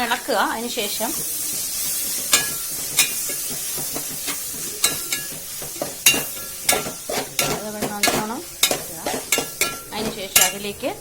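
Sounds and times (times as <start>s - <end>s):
food sizzling in a pan: 0.0s - 11.0s
spoon scraping and knocking pan: 0.0s - 11.0s.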